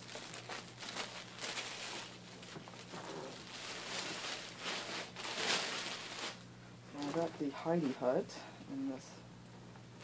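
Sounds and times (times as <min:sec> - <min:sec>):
plastic bags crinkling: 0:00.0 - 0:08.2.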